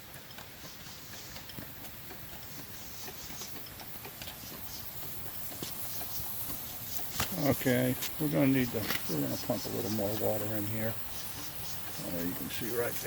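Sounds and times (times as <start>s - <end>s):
steam engine clicking: 0.0s - 13.0s
steam hiss: 0.0s - 13.0s.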